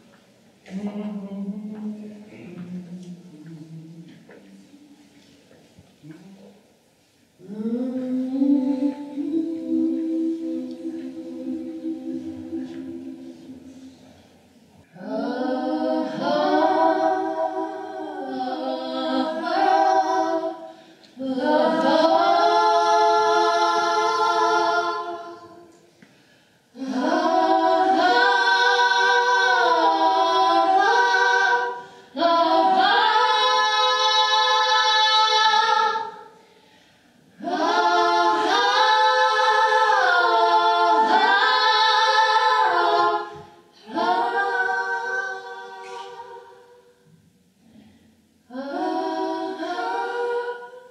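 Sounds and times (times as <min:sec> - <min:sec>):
women singing a cappella: 0:00.0 - 0:50.9.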